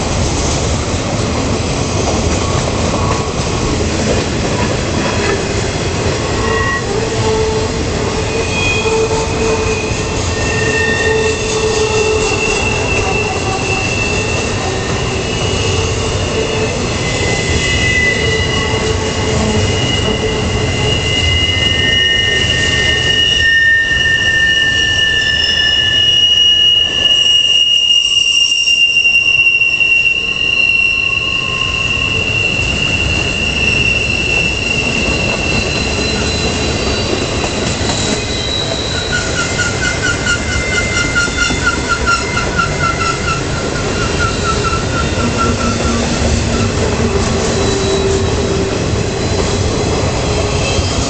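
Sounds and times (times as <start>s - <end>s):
train wheels rumbling on rails: 0.0s - 51.0s
wheel flange squeal: 6.2s - 51.0s.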